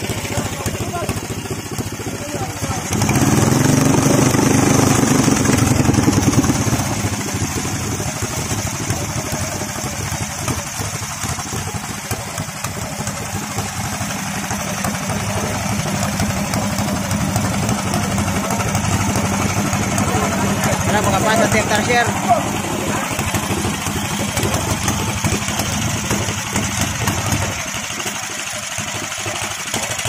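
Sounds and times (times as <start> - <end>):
small model boat engine running: 0.0 - 30.0.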